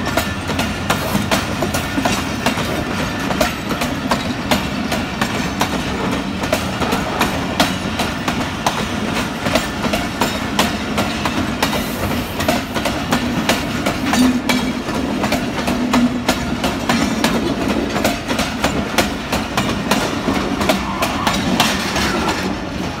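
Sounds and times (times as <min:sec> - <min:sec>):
train wheels clattering over rail joints: 0:00.0 - 0:23.0.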